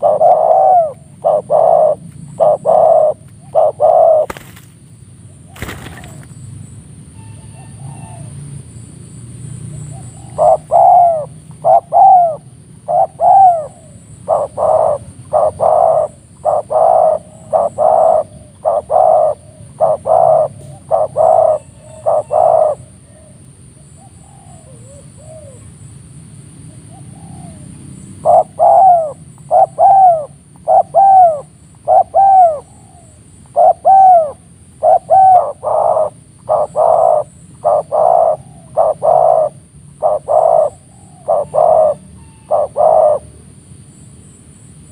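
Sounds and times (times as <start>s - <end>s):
doves cooing: 0.0s - 4.7s, 5.3s - 6.4s, 9.7s - 25.7s, 26.7s - 43.4s.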